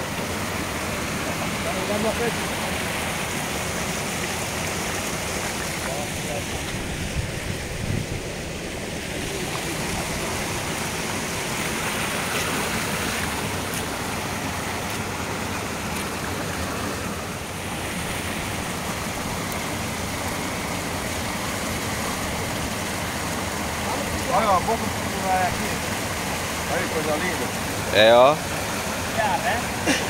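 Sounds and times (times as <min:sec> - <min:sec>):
water rushing over spillway: 0:00.0 - 0:30.0.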